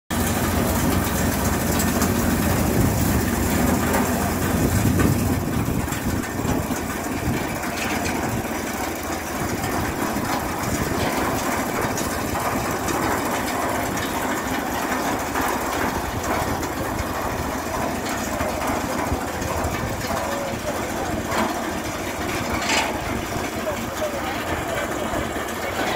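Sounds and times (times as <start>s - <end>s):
chain conveyor clattering: 0.1s - 25.9s
tractor engine running: 0.1s - 25.9s.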